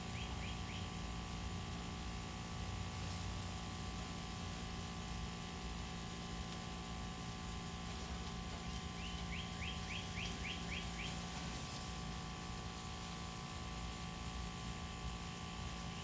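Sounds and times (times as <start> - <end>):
faint hum: 0.0 - 16.0
steady hiss: 0.0 - 16.0.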